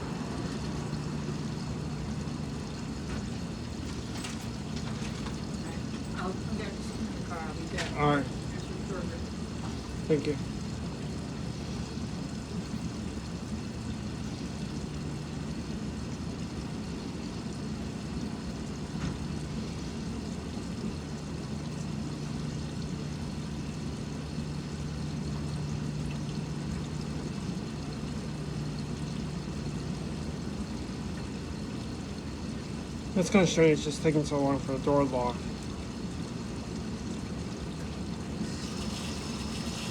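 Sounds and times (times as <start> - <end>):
water rushing into washer: 0.0 - 39.9.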